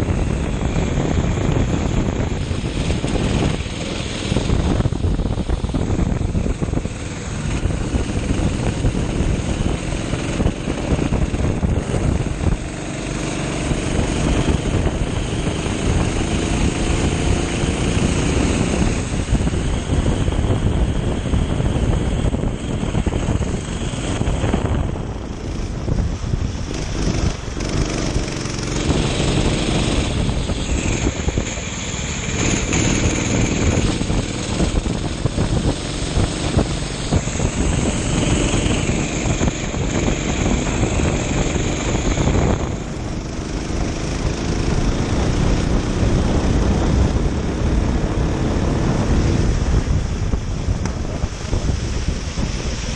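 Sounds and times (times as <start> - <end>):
kart engine running hard: 0.0 - 52.9
wind noise on microphone: 0.0 - 52.9.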